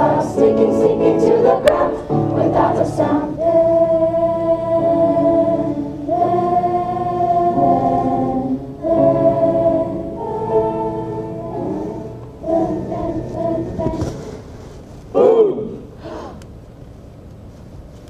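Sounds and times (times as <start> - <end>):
muffled choir singing chords: 0.0 - 14.5.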